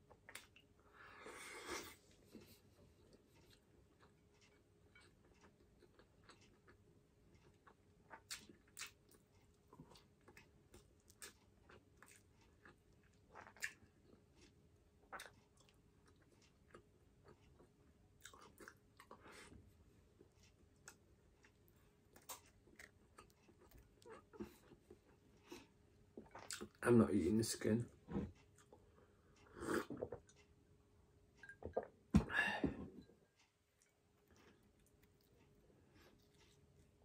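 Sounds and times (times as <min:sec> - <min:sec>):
close-miked chewing: 0:01.4 - 0:26.8, 0:28.4 - 0:30.6, 0:33.7 - 0:37.0.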